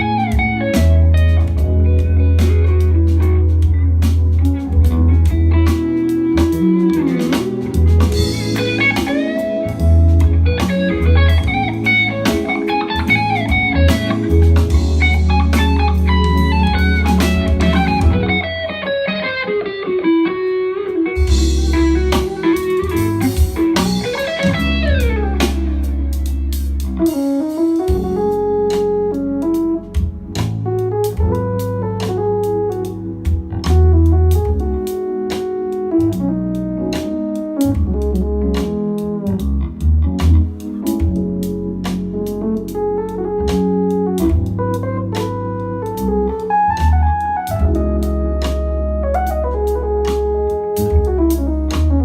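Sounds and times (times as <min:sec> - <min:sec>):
drums: 0:00.0 - 0:18.7, 0:21.2 - 0:52.0
bass: 0:00.0 - 0:19.3, 0:20.9 - 0:52.0
lead guitar melody: 0:00.0 - 0:52.0.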